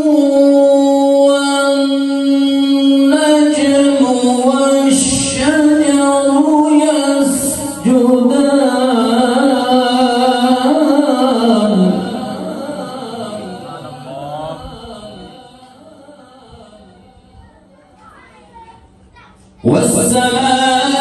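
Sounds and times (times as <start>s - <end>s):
man chanting melodically: 0.0s - 17.4s, 19.6s - 21.0s.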